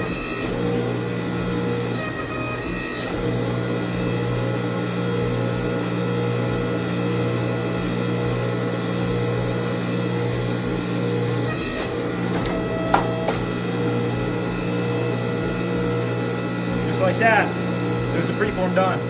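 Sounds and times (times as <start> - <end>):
hydraulic press motor humming: 0.0 - 19.0.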